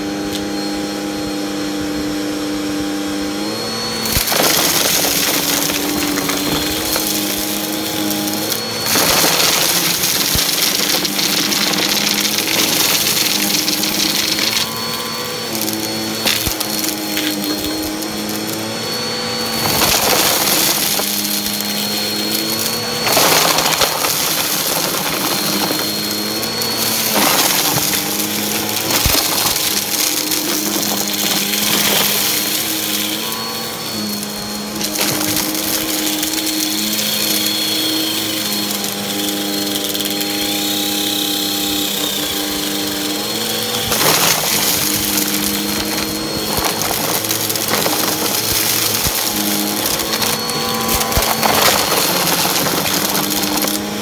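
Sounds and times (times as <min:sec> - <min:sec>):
grit crunching through vacuum: 0:00.0 - 0:54.0
vacuum cleaner motor: 0:00.0 - 0:54.0.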